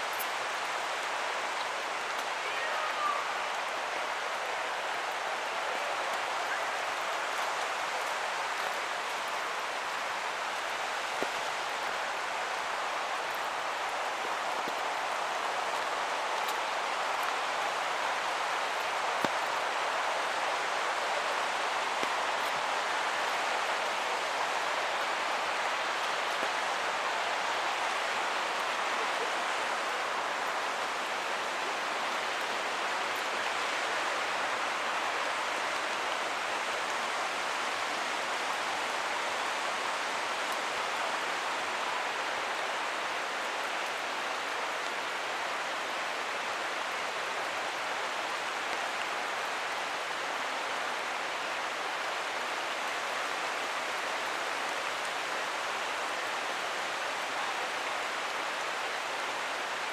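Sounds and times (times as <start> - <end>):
creek water rushing: 0.0 - 59.9
rain falling: 0.0 - 59.9.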